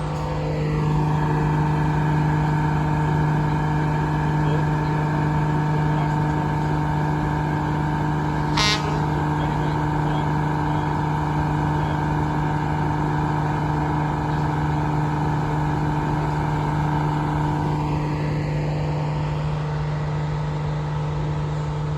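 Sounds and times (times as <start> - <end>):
fire truck engine humming: 0.0 - 21.9.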